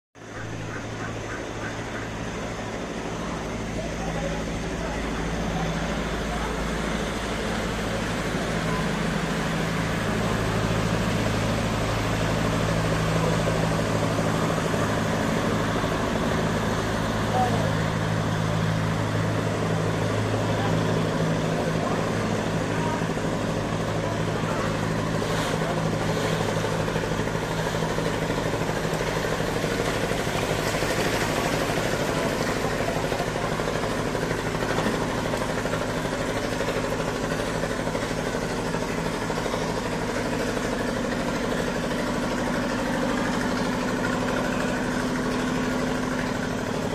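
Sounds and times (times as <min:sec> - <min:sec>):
boat engine droning: 0:00.2 - 0:46.9.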